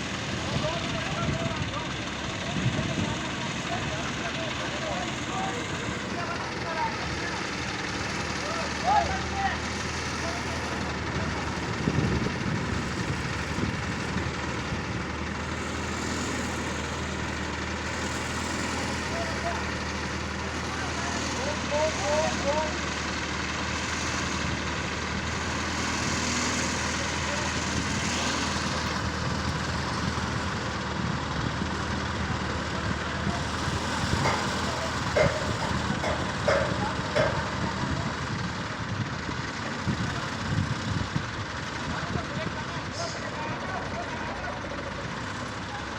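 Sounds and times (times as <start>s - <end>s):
heavy engine running: 0.0s - 45.9s.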